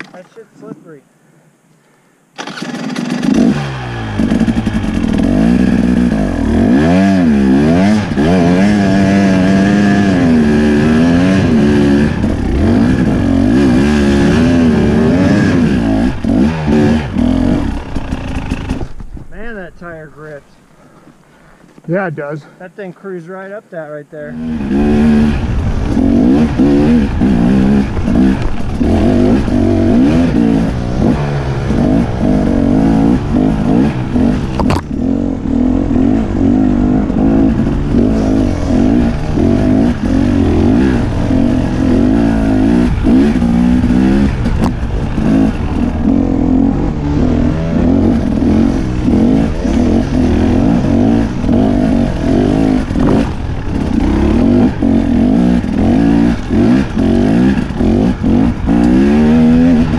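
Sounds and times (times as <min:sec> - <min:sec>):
dirt bike engine revving: 0:02.4 - 0:20.5, 0:24.2 - 0:59.9.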